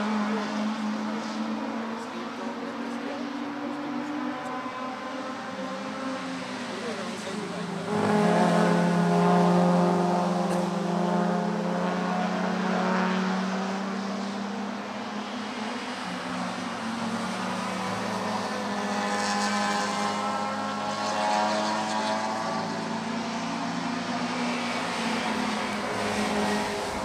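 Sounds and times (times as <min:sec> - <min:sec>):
racing car engines droning: 0:00.0 - 0:27.0.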